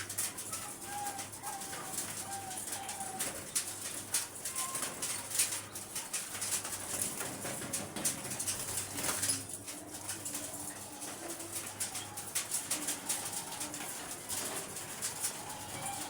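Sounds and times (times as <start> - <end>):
doves cooing: 0.0 - 16.0
small clicks and rustles: 0.0 - 16.0.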